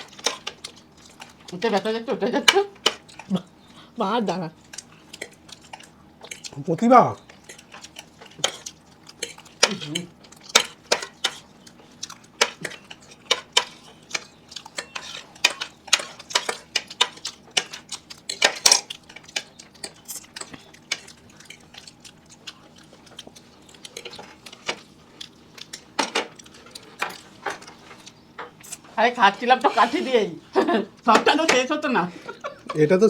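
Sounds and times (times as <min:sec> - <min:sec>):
utensils clinking against plates: 0:00.0 - 0:03.5, 0:04.2 - 0:24.9, 0:25.6 - 0:33.0.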